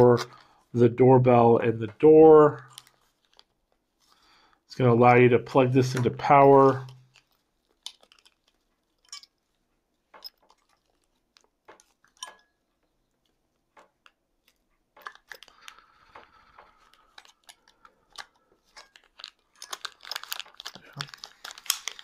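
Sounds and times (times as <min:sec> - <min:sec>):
rustling handling noises: 0:01.6 - 0:04.8, 0:05.5 - 0:22.0.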